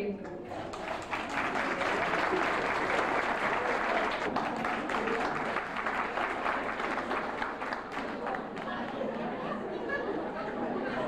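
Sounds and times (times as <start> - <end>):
audience applauding: 0.5 - 9.5.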